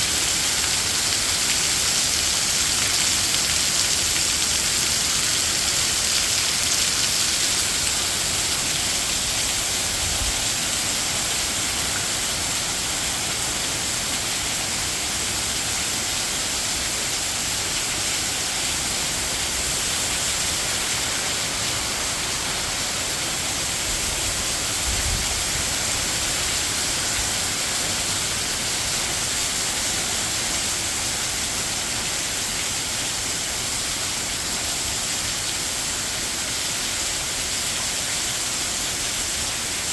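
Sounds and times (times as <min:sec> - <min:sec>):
heavy rain pouring: 0:00.0 - 0:36.3.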